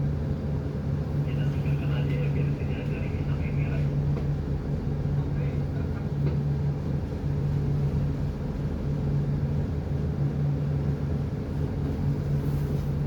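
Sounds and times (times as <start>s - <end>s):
ship engine droning: 0.0s - 13.0s.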